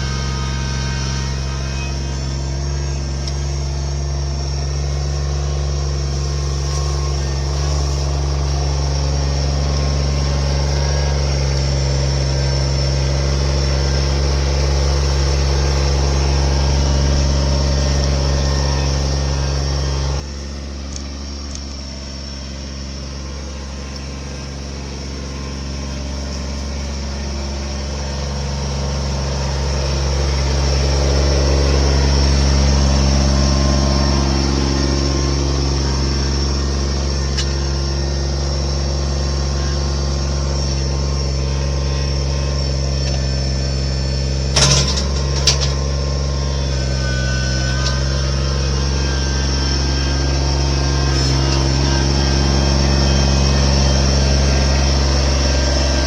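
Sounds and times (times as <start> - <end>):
machine engine droning: 0.0 - 56.0.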